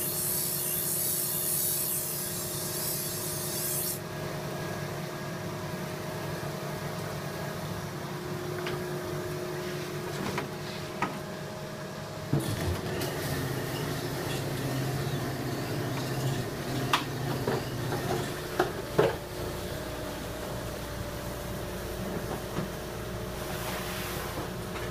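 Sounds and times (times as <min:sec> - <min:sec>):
shop machinery humming: 0:00.0 - 0:24.9.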